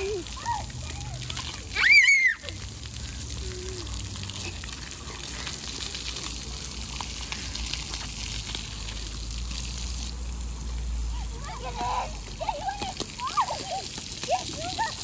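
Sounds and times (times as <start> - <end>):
water jets spraying on pavement: 0.0 - 15.0.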